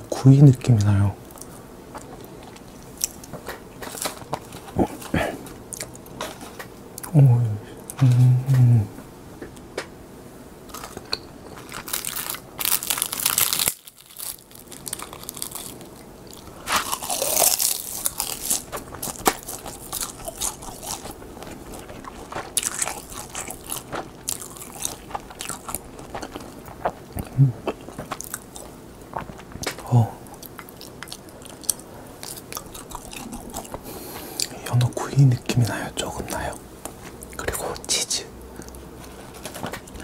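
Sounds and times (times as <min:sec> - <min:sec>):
crunching and chewing seaweed: 0:00.6 - 0:07.2, 0:10.7 - 0:37.9, 0:38.5 - 0:40.0.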